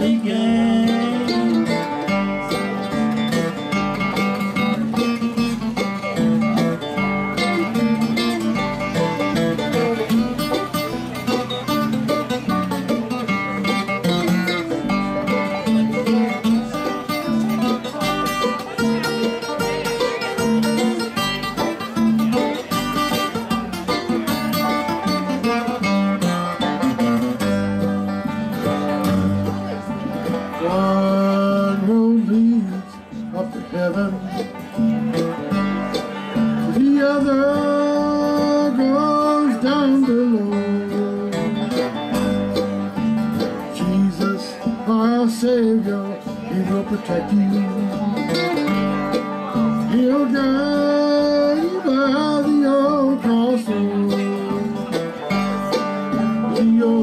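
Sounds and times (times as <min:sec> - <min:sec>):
banjo sliding lead line: 0:00.0 - 0:57.0
bluegrass band playing: 0:00.0 - 0:57.0.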